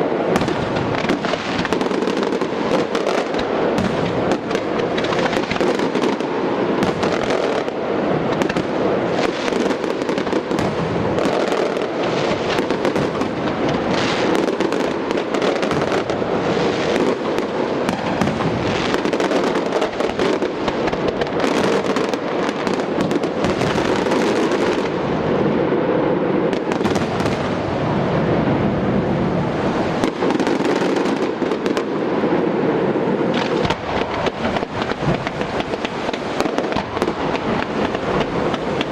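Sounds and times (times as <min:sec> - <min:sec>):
fireworks barrage: 0:00.0 - 0:38.9.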